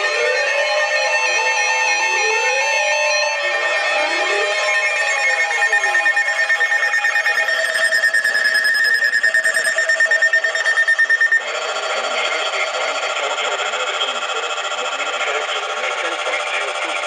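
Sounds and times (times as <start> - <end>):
pulsing high-pitched alarm tone: 0.0 - 17.0
radio broadcast: 0.0 - 17.0.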